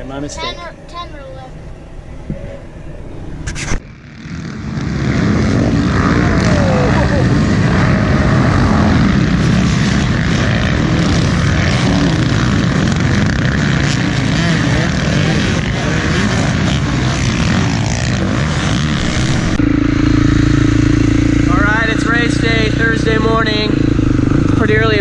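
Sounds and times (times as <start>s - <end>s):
steady low hum: 0.0s - 15.8s, 16.5s - 25.0s
dirt bike engines running: 0.0s - 25.0s.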